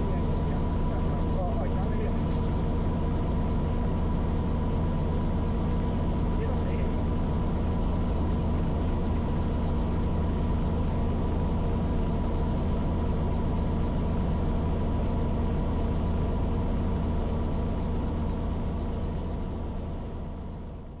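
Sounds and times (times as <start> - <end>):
helicopter engine and rotors: 0.0 - 21.0.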